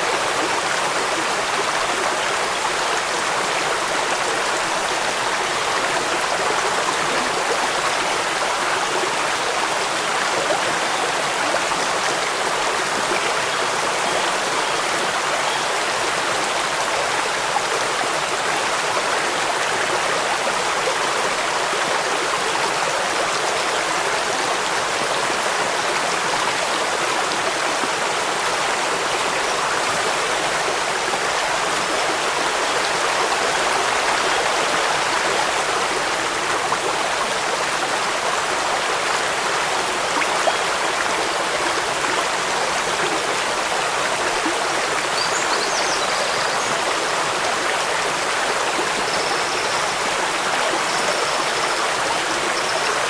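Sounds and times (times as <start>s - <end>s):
rushing water: 0.0s - 53.0s.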